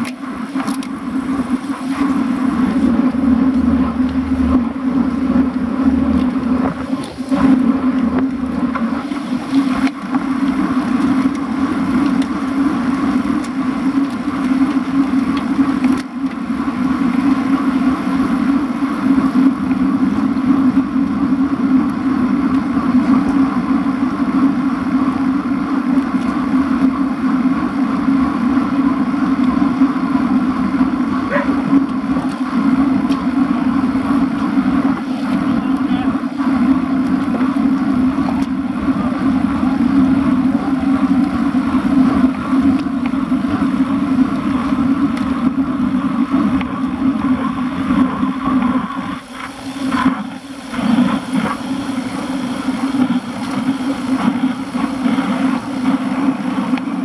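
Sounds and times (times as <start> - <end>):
low hum: 0.0 - 57.0
wind and road noise: 0.0 - 57.0.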